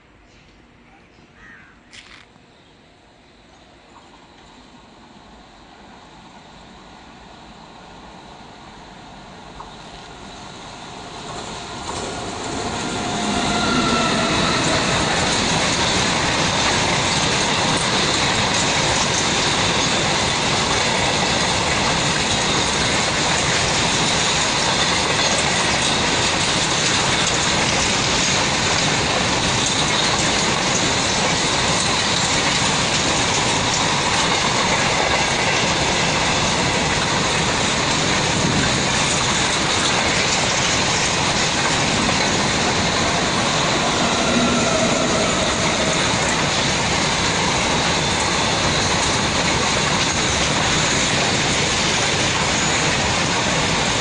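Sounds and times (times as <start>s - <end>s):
electric locomotive approaching: 0.0s - 54.0s
freight wagons rumbling on rails: 9.4s - 54.0s.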